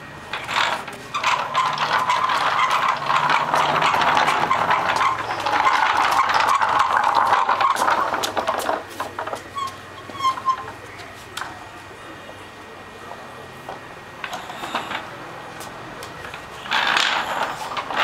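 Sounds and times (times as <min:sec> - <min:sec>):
wooden wheels rattling on concrete: 0:00.3 - 0:11.6, 0:14.2 - 0:18.0.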